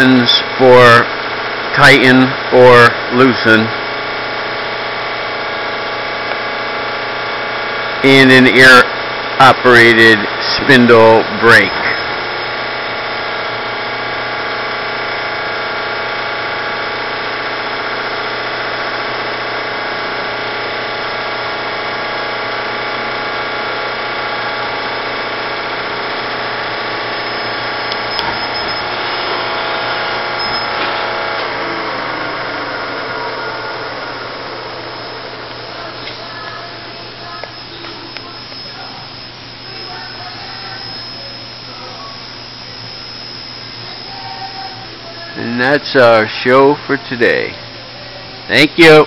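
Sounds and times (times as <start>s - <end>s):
milling machine spindle hum and whine: 0.0s - 49.0s.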